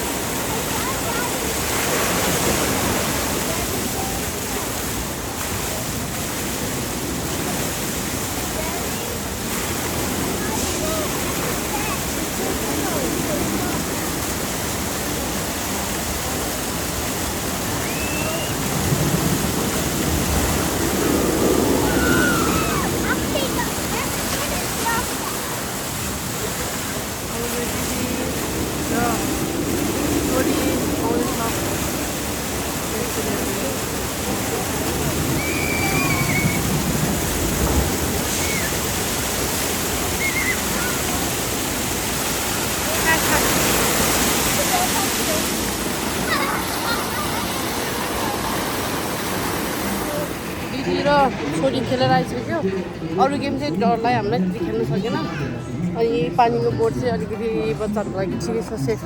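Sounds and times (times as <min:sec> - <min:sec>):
faint distant voices: 0:00.0 - 0:59.0
rushing water: 0:00.0 - 0:59.0.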